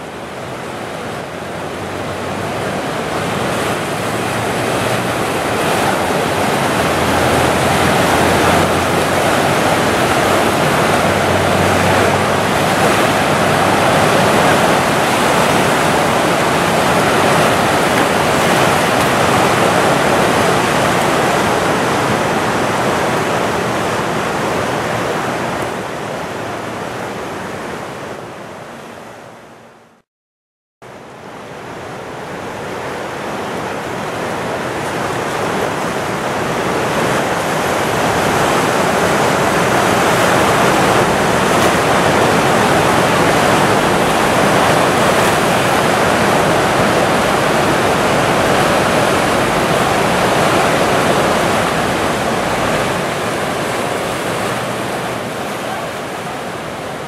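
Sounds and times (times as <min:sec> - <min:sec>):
river rushing through rapids: 0:00.0 - 0:30.0, 0:30.8 - 0:57.0.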